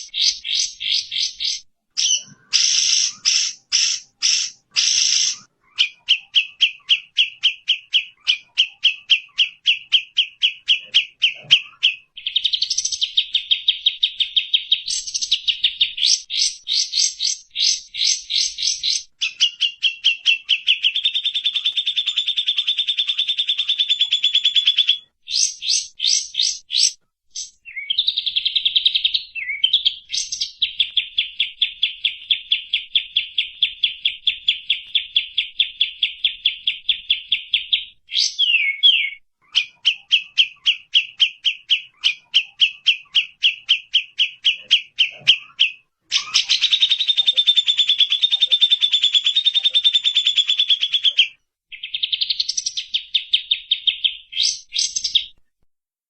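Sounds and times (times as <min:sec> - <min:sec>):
bird trilling song: 0:00.0 - 0:55.4.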